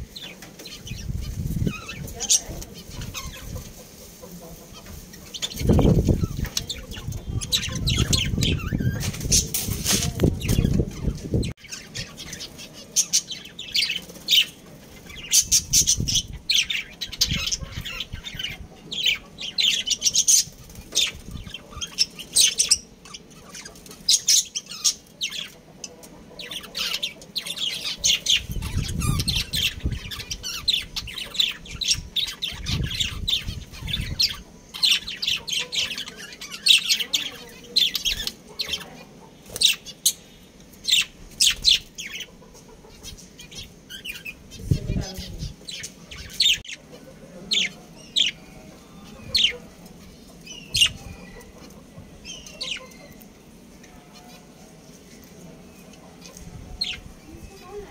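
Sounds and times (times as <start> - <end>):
birds chirping and squawking: 0.0 - 57.9.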